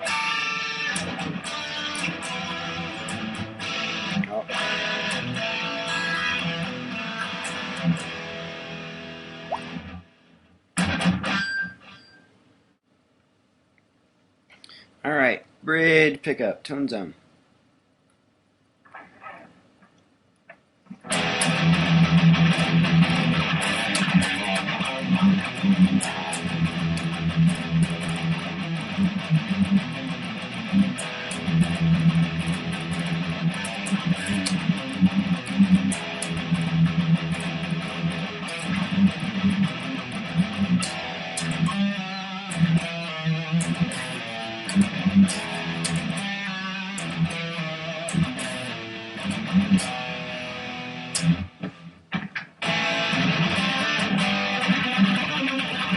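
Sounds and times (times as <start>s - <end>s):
electric guitar through an amp: 0.0s - 11.9s, 21.0s - 55.9s.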